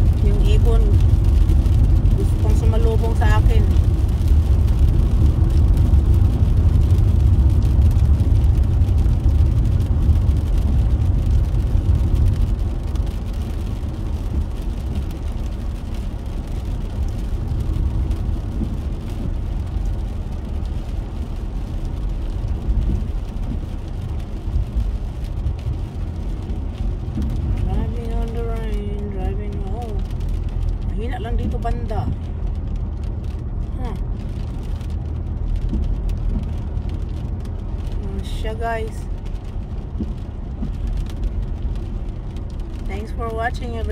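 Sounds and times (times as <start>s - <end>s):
car cabin road rumble: 0.0s - 43.9s.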